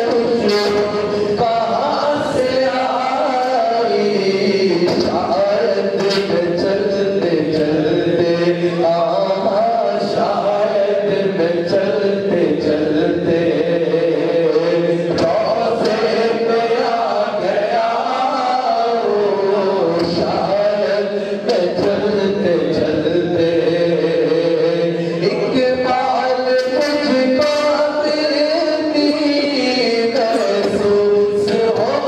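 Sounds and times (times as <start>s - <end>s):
man singing devotional song: 0.0s - 32.0s.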